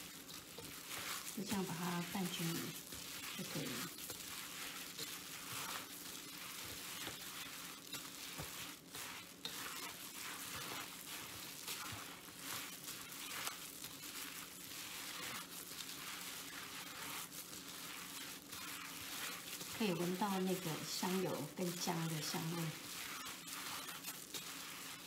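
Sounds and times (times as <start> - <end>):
hand mixing filling in a bowl: 0.0 - 25.0.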